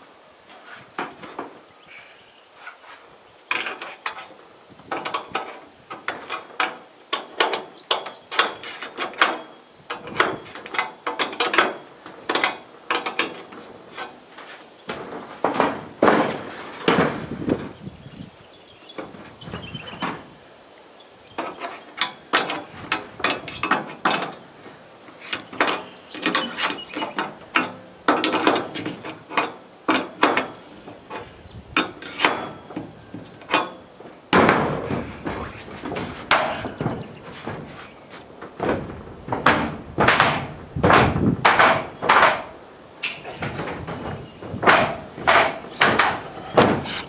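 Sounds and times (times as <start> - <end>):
hardware knocks and clatters: 4.9 - 17.7, 21.4 - 47.0.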